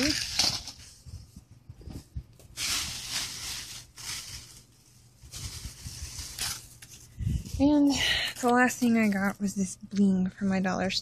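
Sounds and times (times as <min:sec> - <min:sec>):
rustling of packaging: 0:00.0 - 0:09.5.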